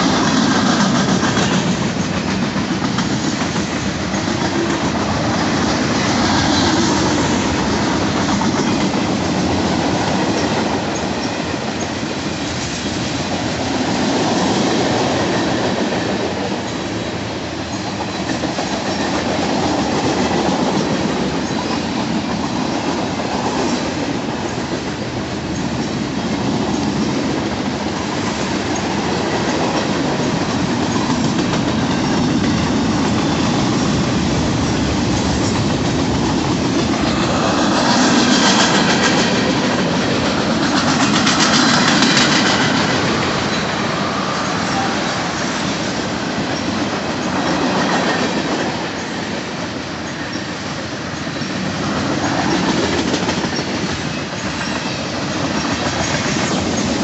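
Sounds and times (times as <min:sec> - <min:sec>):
freight train wheels rumbling and clattering: 0:00.0 - 0:57.0.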